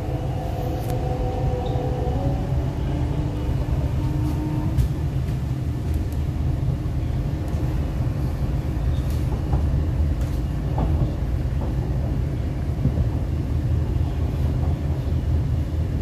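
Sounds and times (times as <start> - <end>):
train running rumble: 0.0 - 16.0.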